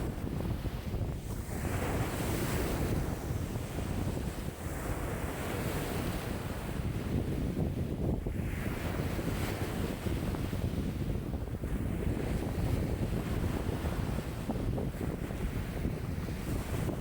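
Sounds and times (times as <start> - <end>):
lake waves washing in: 0.0 - 17.0
low wind rumble on microphone: 0.0 - 17.0.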